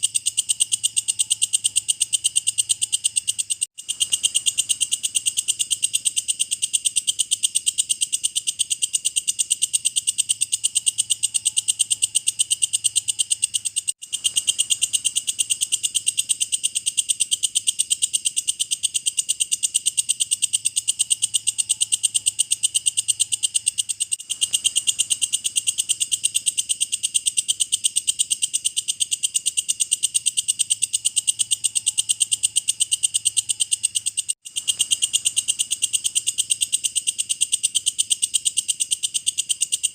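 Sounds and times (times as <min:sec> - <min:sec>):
bush-cricket ticking call: 0:00.0 - 0:39.9.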